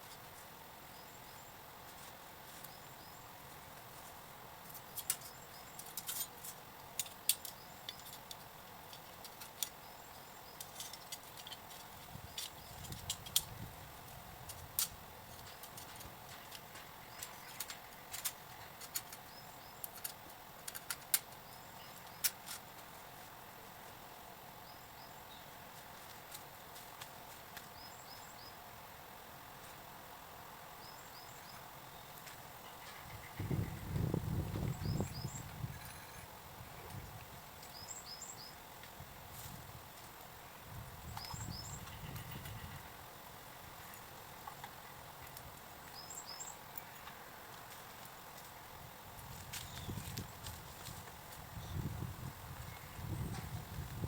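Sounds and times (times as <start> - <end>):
outdoor background hum: 0.0 - 54.0.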